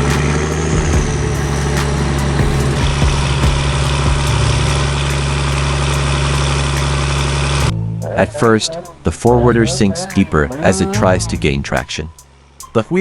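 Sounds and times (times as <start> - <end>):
heavy diesel engine running: 0.0 - 11.8.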